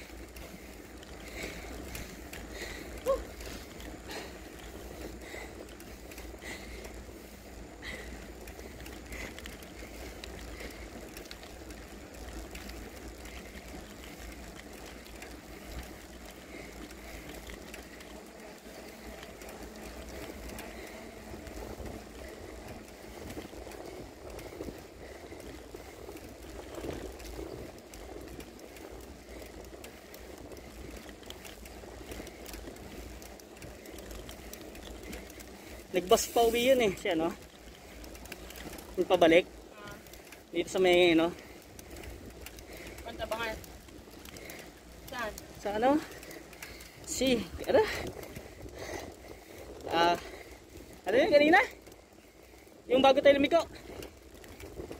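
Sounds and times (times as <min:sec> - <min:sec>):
bicycle rolling on paved road: 0:00.0 - 0:54.9
faint ticks: 0:00.0 - 0:54.9.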